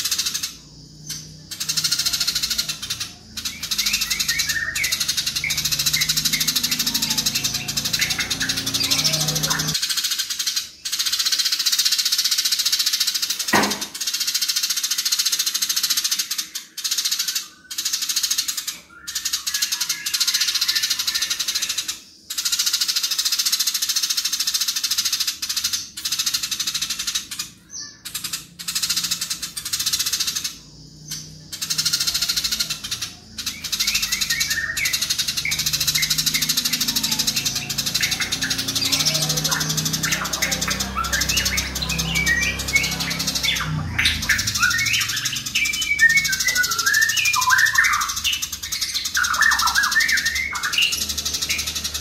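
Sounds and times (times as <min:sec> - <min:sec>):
sparrow chattering: 0:00.0 - 0:52.0.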